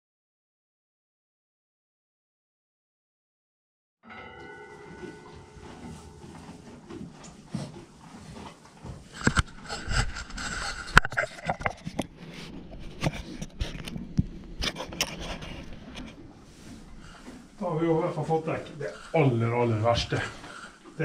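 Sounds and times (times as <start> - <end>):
handling noise scraping and rubbing: 4.1 - 21.0.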